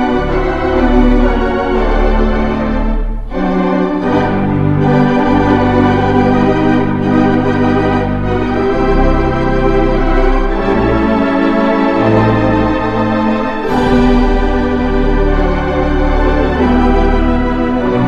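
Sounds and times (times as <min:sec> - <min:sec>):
organ pedal bass: 0:00.0 - 0:18.0
pipe organ chords: 0:00.0 - 0:18.0.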